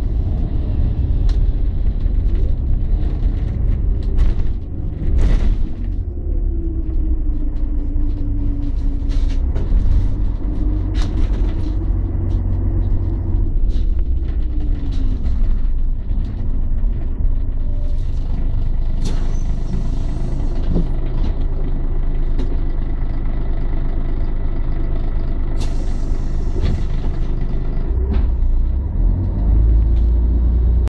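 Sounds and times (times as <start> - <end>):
bus diesel engine running: 0.0 - 30.9.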